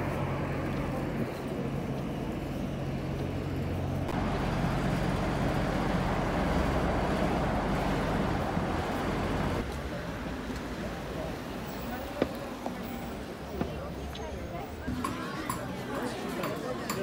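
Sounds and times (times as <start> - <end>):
cars passing on road: 0.0 - 16.8.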